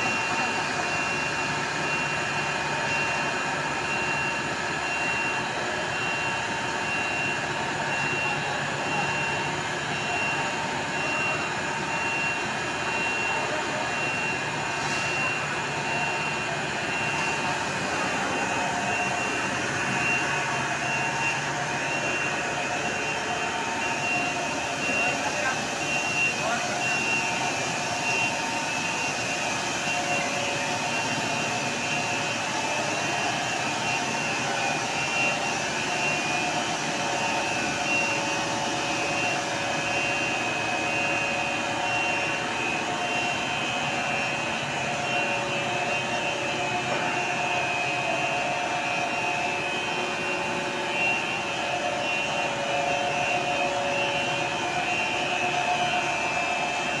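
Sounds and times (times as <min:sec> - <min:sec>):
machines running with whining tones: 0:00.0 - 0:57.0.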